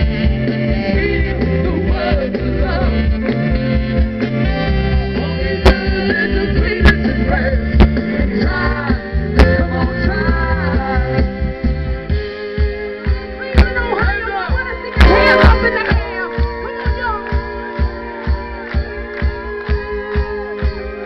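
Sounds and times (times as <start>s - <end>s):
live band playing: 0.0s - 21.0s.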